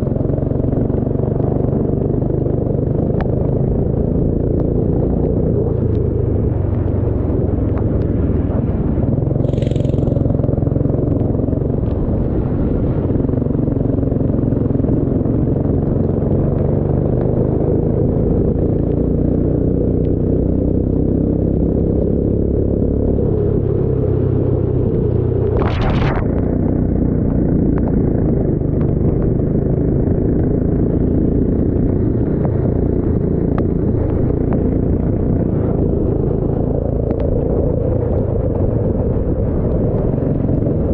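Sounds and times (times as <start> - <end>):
racing engine rumbling: 0.0 - 18.9, 21.7 - 40.9.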